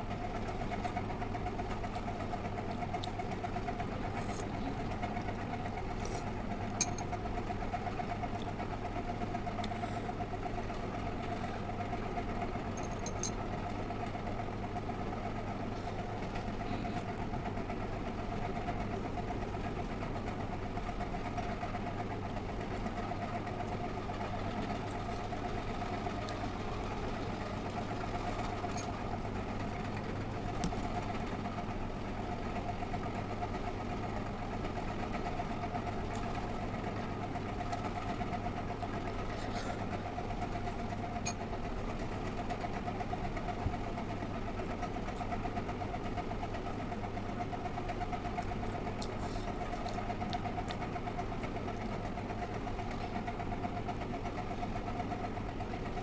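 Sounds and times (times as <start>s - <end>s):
motor hum with whine: 0.0s - 56.0s.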